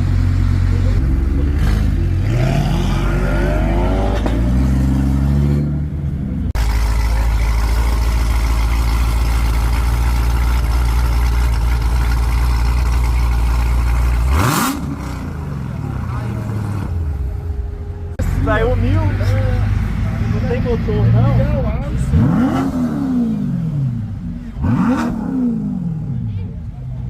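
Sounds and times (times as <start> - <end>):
car engine revving: 0.0 - 26.3.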